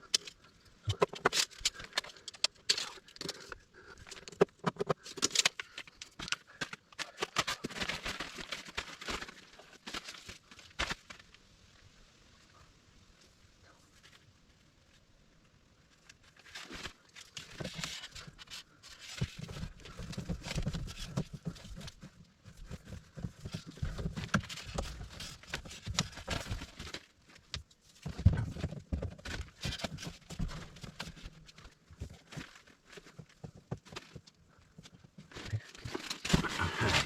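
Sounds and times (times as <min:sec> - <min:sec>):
cable rustling and scraping: 0:00.0 - 0:11.4, 0:15.9 - 0:37.0.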